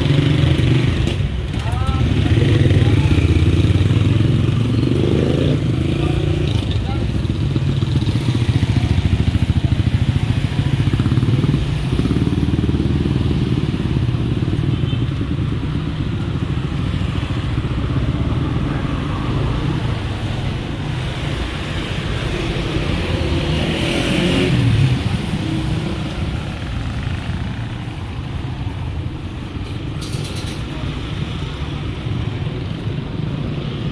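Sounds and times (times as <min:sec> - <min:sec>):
motorcycles passing: 0:00.0 - 0:33.9.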